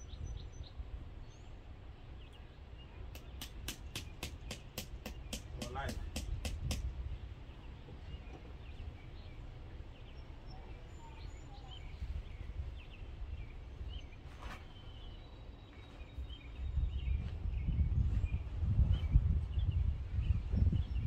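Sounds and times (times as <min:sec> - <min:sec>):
small birds chirping: 0:00.0 - 0:21.0
wind rumbling on microphone: 0:00.0 - 0:21.0.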